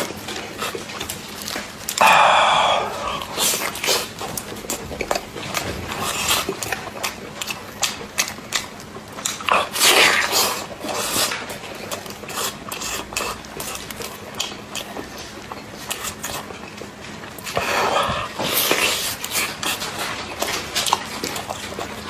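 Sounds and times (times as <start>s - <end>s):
person chewing with wet smacks: 0.0s - 22.0s.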